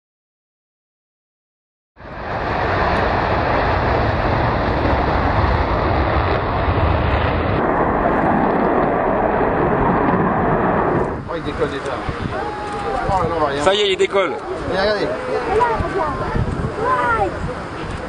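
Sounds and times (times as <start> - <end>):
jet engines roaring on takeoff: 2.0 - 18.0.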